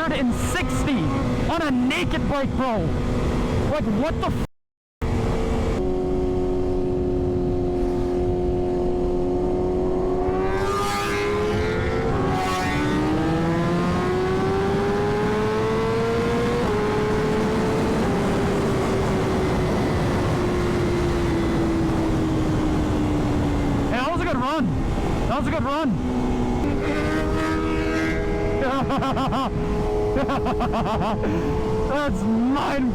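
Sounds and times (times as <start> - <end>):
motorcycle engine: 0.0 - 2.2, 5.0 - 32.9
heavy wind noise: 0.0 - 4.4, 5.0 - 32.9.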